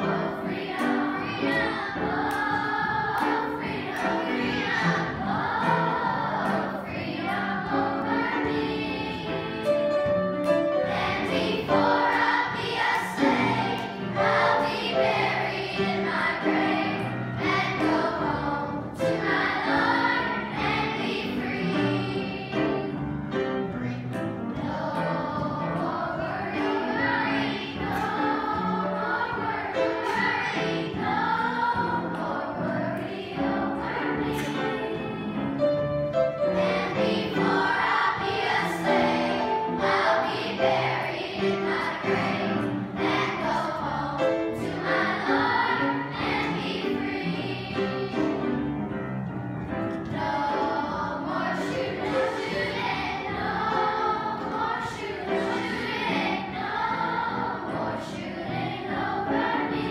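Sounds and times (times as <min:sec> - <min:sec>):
children's choir singing: 0:00.0 - 0:59.9.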